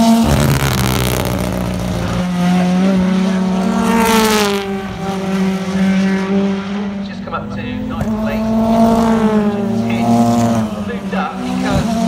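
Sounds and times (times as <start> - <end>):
racing car engines surging: 0.0 - 12.0.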